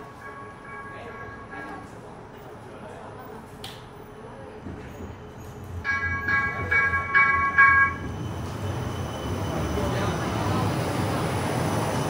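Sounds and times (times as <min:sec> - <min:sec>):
tram warning bell ringing: 0:00.0 - 0:03.2, 0:05.1 - 0:12.0
tram rumbling on rails: 0:00.0 - 0:12.0.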